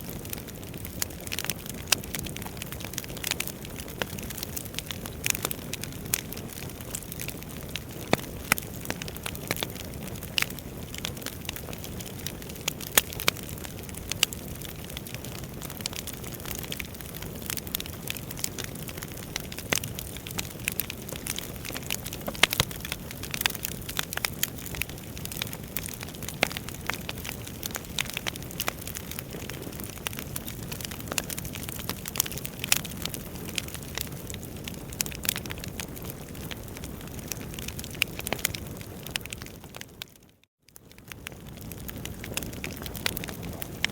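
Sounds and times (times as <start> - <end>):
logs crackling and popping: 0.0 - 43.9
flames rushing: 0.1 - 39.3.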